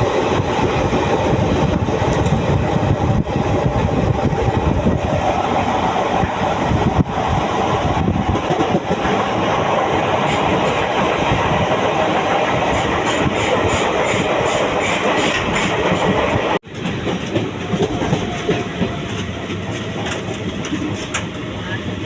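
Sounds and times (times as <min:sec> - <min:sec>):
train wheels clickety-clack: 0:00.0 - 0:04.9, 0:05.8 - 0:22.0.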